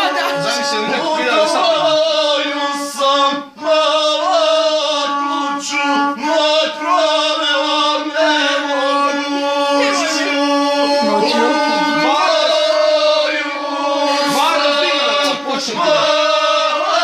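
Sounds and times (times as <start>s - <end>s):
bowed single-string fiddle: 0.0s - 17.0s
man singing: 0.0s - 17.0s.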